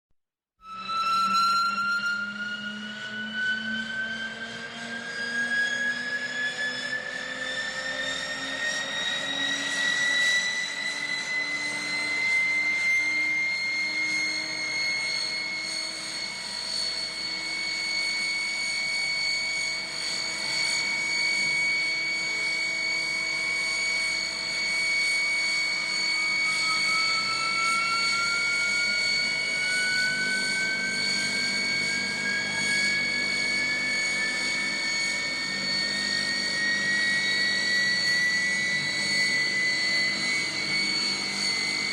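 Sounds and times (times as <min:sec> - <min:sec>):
jet engines whining: 0:02.8 - 0:41.9.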